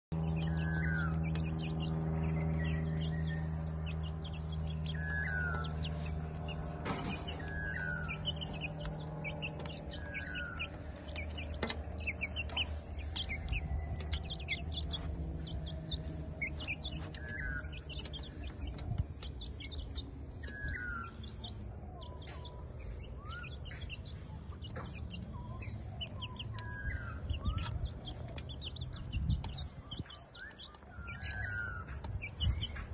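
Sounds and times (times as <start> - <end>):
birds chirping: 0.1 - 32.9
low steady hum: 0.1 - 32.9.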